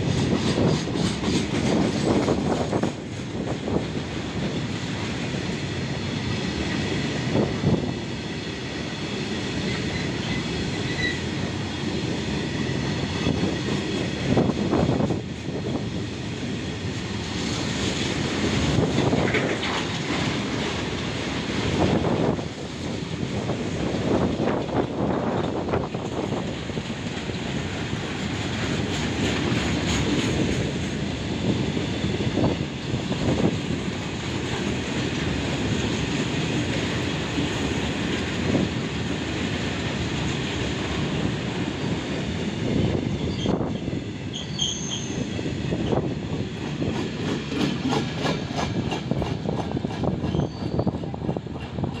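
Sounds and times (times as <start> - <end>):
train wheels clattering over rail joints: 0.0 - 52.0.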